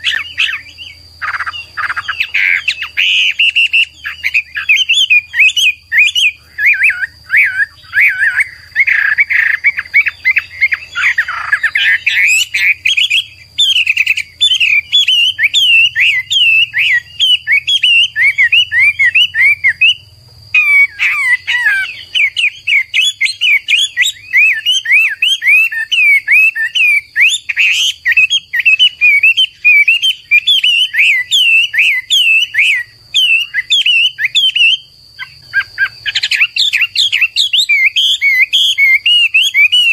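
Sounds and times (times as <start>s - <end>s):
bird singing fast varied song: 0.0s - 39.9s.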